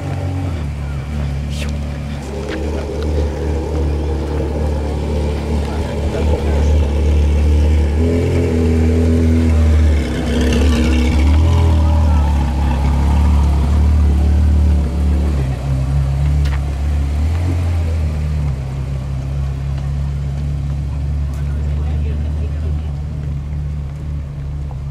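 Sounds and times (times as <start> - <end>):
deep car exhaust note: 0.0 - 23.8.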